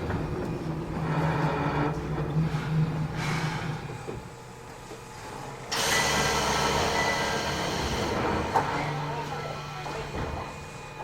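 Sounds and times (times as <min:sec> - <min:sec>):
electric train motor hum: 0:00.0 - 0:11.0
loud wide train noise: 0:00.0 - 0:11.0.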